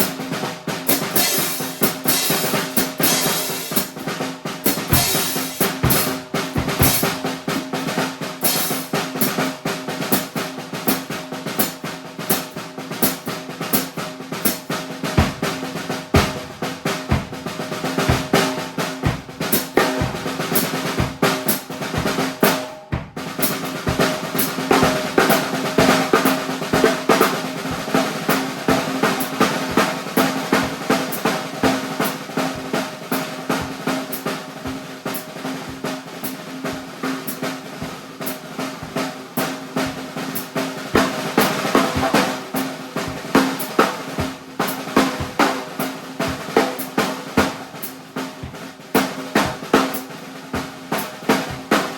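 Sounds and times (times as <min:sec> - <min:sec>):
bass drum: 0:00.0 - 0:10.4, 0:11.6 - 0:51.9
drum ringing: 0:00.0 - 0:10.4, 0:13.8 - 0:51.9
snare drum strokes and rolls: 0:00.0 - 0:51.9.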